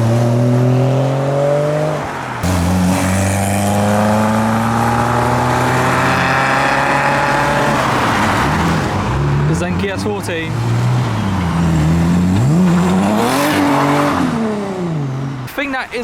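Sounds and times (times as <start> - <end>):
car engines accelerating: 0.0 - 16.0.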